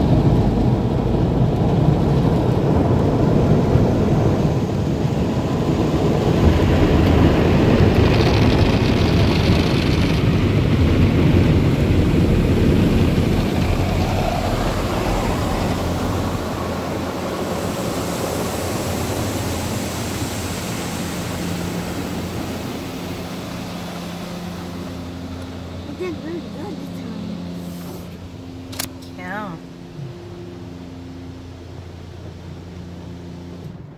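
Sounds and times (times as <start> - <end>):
car wash machinery roaring: 0.0 - 33.9.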